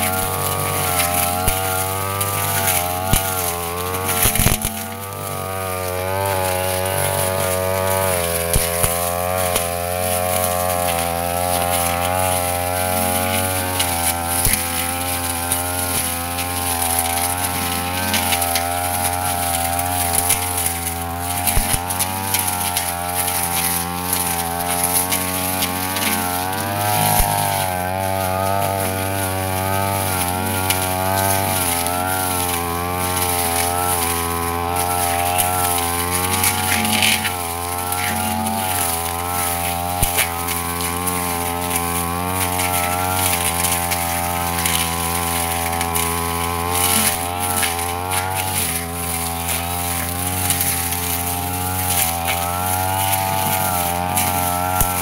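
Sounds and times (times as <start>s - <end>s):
brush cutter engine running: 0.0s - 55.0s.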